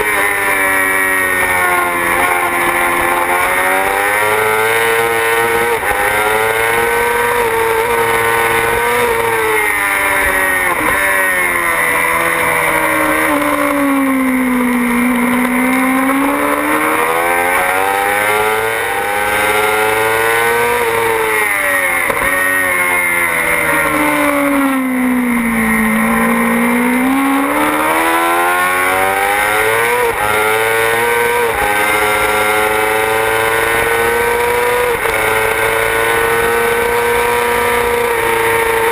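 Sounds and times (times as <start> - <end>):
motorcycle engine at racing revs: 0.0 - 38.9.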